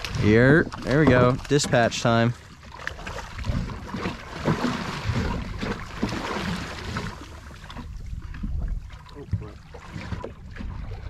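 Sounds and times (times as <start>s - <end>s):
wind rumbling on microphone: 0.0s - 2.0s, 3.0s - 11.0s
water splashing against boat hull: 0.0s - 11.0s.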